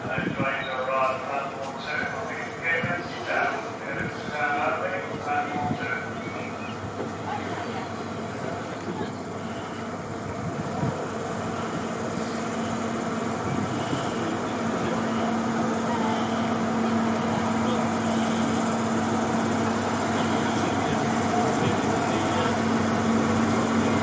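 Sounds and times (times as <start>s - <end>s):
diesel locomotive engine: 0.0s - 24.0s.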